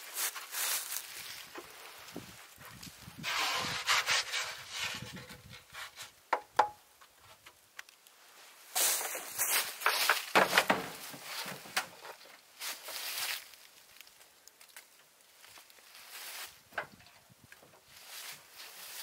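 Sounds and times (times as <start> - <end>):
rustling over dry leaves: 0.0 - 6.0, 8.0 - 16.7, 17.8 - 19.0.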